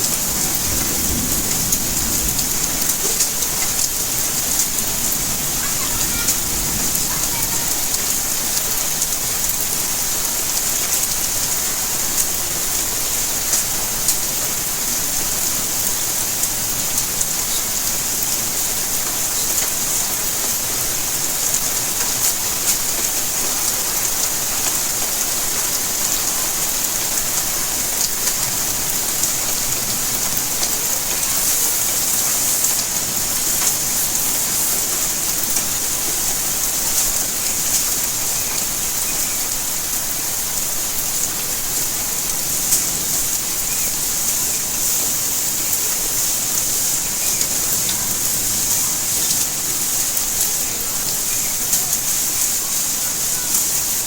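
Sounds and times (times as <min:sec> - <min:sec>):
raindrops pattering on surfaces: 0:00.0 - 0:54.0
steady rainfall: 0:00.0 - 0:54.0.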